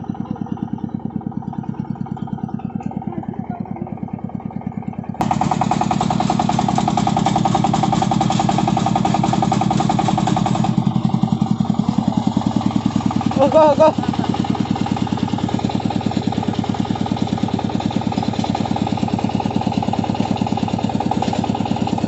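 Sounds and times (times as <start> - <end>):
single-cylinder diesel engine under load: 0.0 - 22.0.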